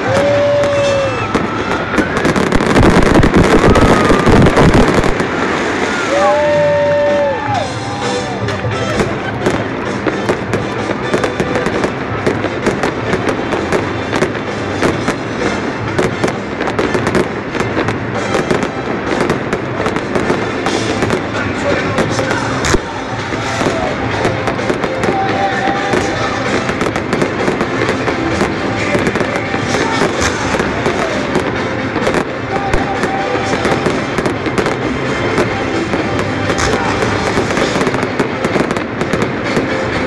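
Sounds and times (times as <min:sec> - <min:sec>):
fireworks bangs and crackling pops: 0:00.0 - 0:40.0.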